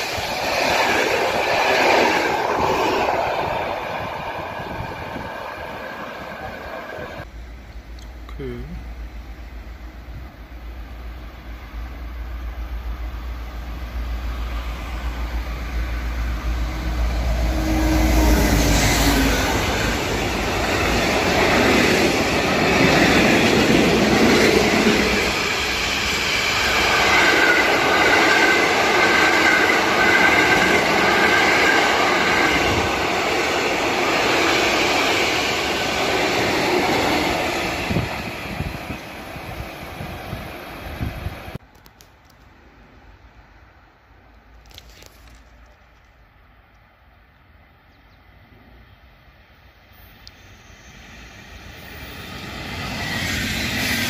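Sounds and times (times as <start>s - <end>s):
train rumble: 0.0s - 46.8s.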